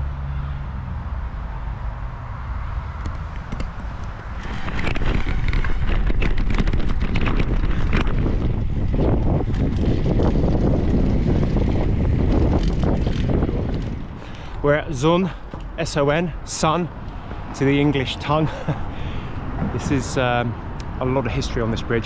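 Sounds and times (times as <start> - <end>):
faint road and bike noise: 0.0 - 22.0
wind buffeting microphone: 2.6 - 22.0.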